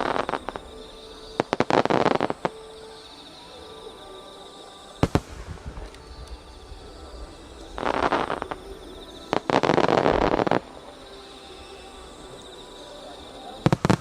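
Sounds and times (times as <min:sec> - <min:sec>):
fireworks crackling: 0:00.0 - 0:04.0, 0:04.6 - 0:14.0.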